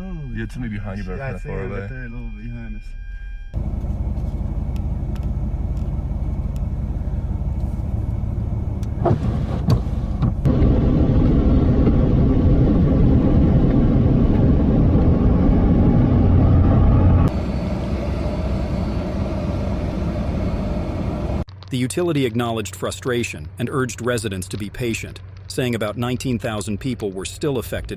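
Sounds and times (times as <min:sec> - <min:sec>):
vehicle engine and road noise: 0:03.5 - 0:27.9.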